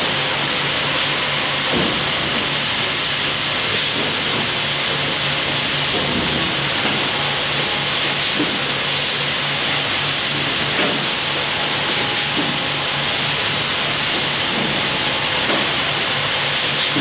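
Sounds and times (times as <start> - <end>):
sawmill machinery din: 0.0 - 17.0.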